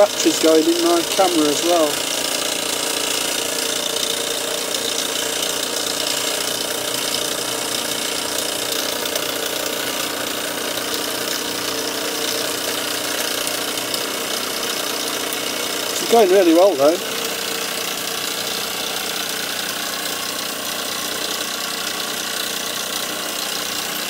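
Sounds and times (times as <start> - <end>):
model steam engine running: 0.0 - 24.0.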